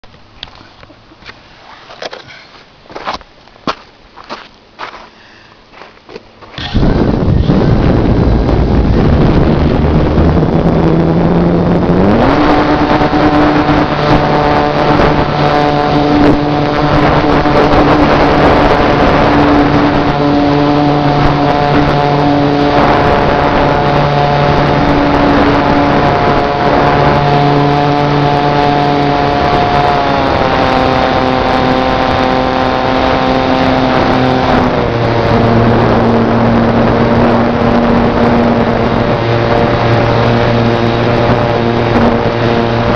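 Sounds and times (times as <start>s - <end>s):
wind noise on microphone: 6.3s - 42.9s
model plane motor whine: 6.8s - 42.9s.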